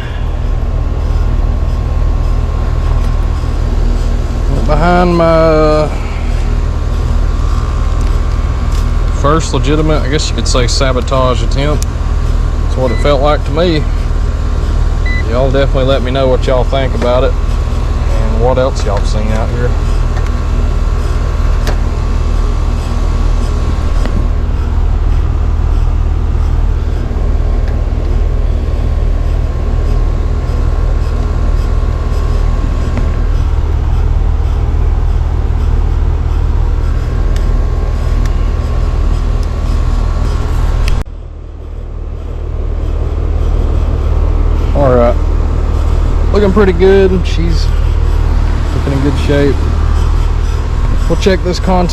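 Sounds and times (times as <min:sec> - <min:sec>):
air conditioner compressor hum: 0:00.0 - 0:51.9.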